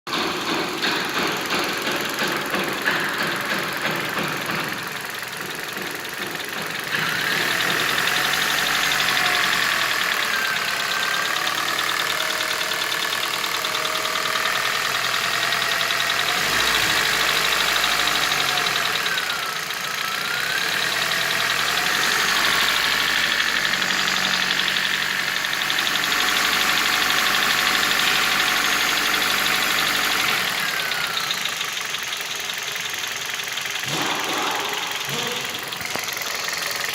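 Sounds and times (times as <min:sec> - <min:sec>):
car engine knocking: 0:00.1 - 0:36.9.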